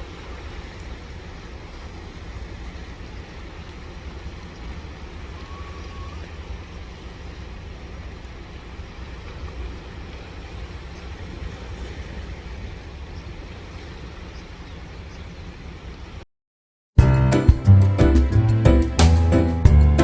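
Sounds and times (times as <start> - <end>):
sea waves washing: 0.0 - 16.2.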